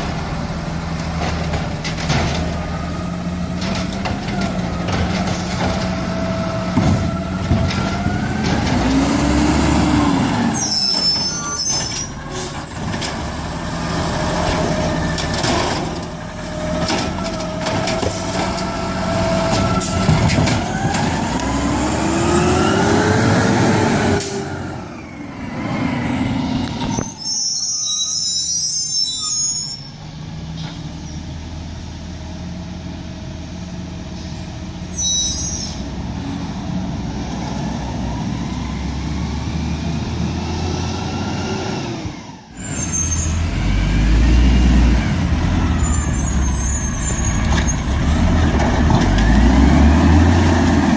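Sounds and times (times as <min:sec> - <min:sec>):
garbage truck engine revving: 0:00.0 - 0:27.0, 0:35.9 - 0:50.9.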